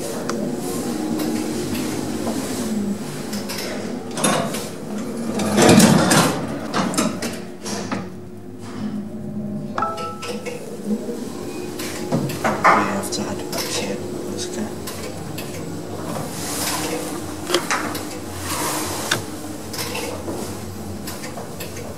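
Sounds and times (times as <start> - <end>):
lift car humming and rattling: 0.0 - 21.9.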